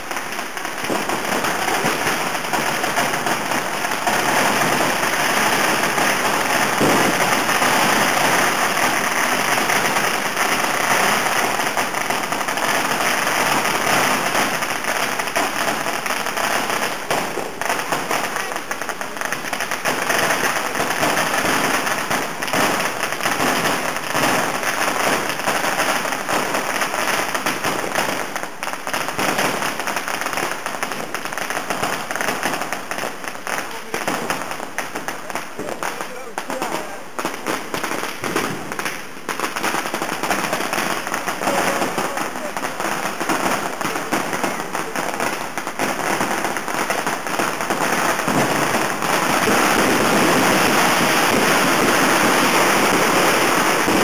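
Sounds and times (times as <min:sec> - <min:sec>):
fireworks and firecrackers crackling: 0:00.0 - 0:54.0.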